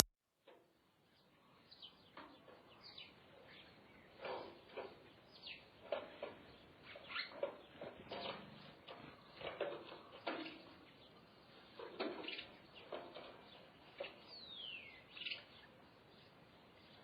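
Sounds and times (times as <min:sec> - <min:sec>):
birds chirping: 0:01.1 - 0:17.0.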